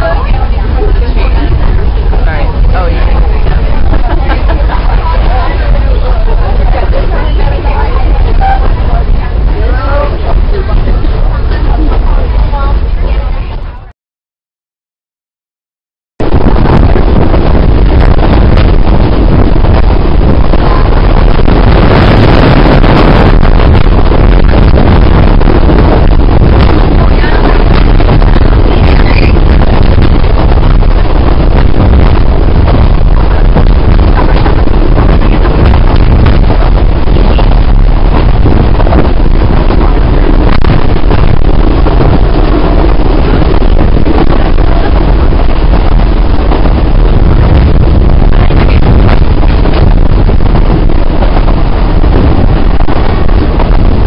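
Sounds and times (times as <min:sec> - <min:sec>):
moving passenger train rumbling: 0:00.0 - 0:13.9, 0:16.2 - 0:54.0
wind buffeting the microphone: 0:00.0 - 0:13.9, 0:16.2 - 0:54.0.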